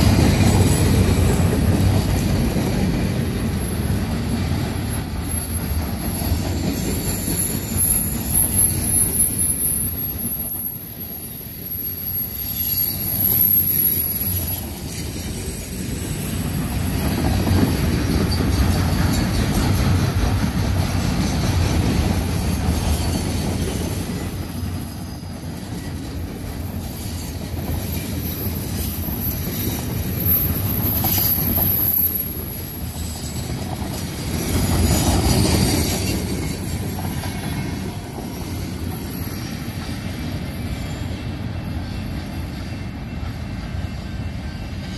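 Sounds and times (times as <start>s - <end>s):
high-pitched wheel squeal: 0.0s - 19.8s, 27.8s - 44.9s
train wheels rumbling on rails: 0.0s - 44.9s.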